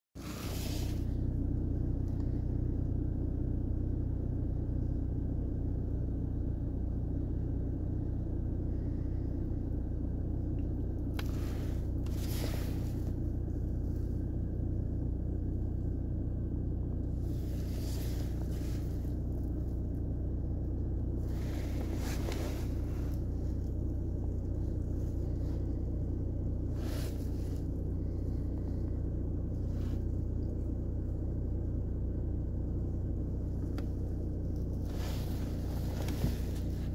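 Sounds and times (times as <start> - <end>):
low vehicle rumble: 0.2 - 36.9.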